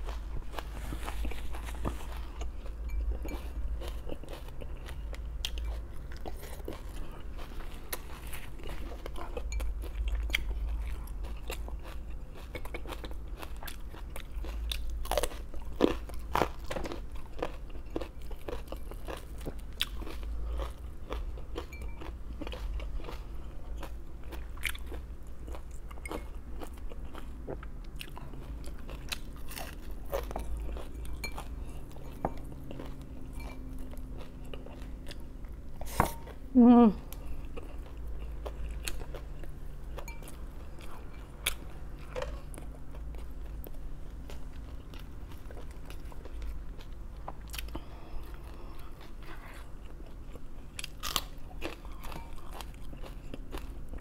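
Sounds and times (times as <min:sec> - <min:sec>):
crunching and chewing vegetables: 0:00.0 - 0:54.0.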